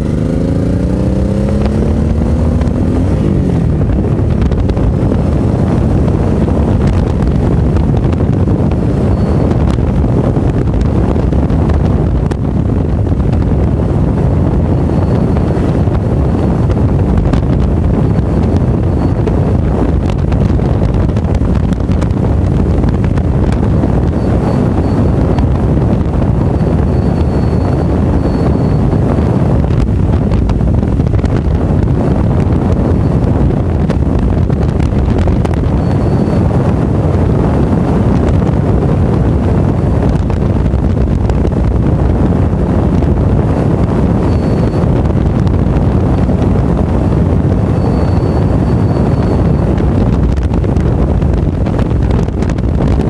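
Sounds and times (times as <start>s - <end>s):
motorcycle engine: 0.0s - 53.0s
road noise: 0.0s - 53.0s
wind buffeting microphone: 0.0s - 53.0s.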